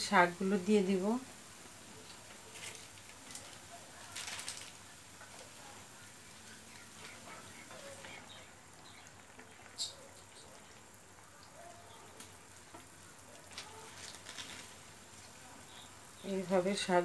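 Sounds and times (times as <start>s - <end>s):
sauce bubbling in a pan: 0.3s - 17.0s.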